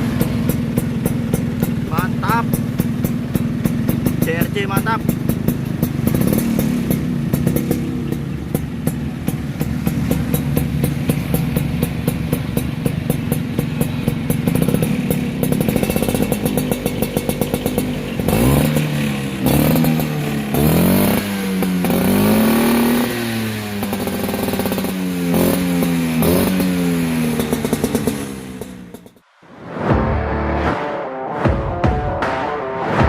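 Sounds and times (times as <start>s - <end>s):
scooter engine idling and revving: 0.0s - 29.3s.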